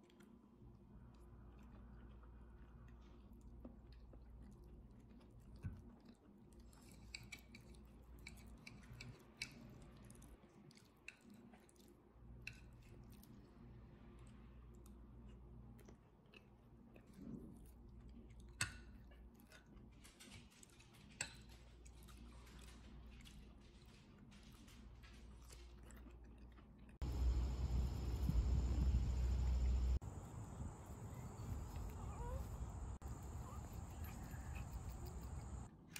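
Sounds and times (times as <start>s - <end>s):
soft chewing: 0.0s - 35.9s.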